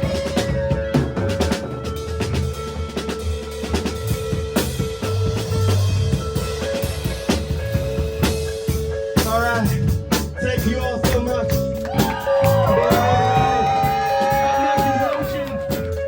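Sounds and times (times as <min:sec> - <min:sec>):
bass guitar: 0:00.0 - 0:16.0.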